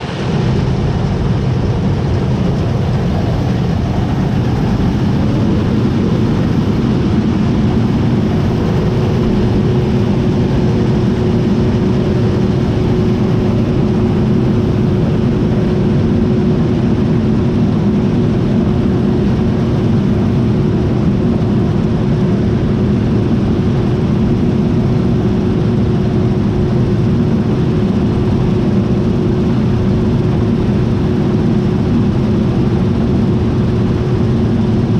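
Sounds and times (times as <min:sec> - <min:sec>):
combine harvester engine drone: 0:00.0 - 0:34.9
steady mechanical whine: 0:00.0 - 0:34.9.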